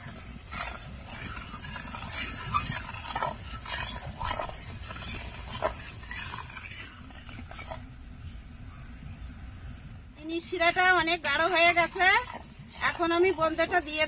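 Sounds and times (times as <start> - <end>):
metal spoon scraping pan: 0.0 - 7.9, 10.2 - 14.0
syrup boiling: 0.0 - 8.4, 10.1 - 14.0.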